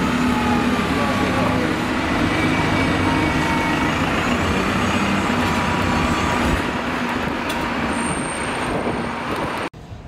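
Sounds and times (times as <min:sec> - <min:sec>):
bus diesel engine under load: 0:00.0 - 0:10.0.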